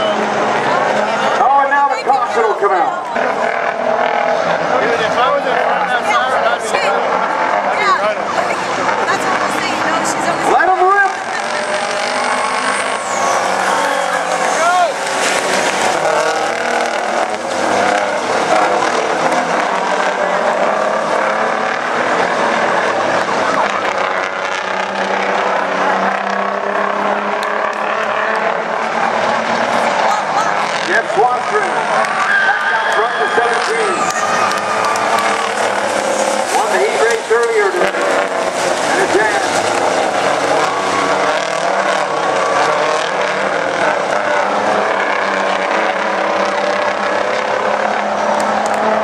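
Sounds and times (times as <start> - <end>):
truck diesel engines racing: 0.0 - 49.0.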